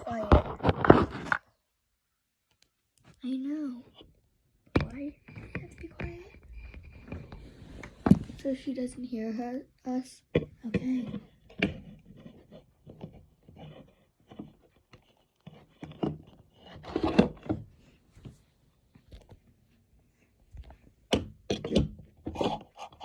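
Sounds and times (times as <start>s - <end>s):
objects handled and moved: 0.0s - 1.6s, 2.5s - 9.1s, 10.3s - 23.0s.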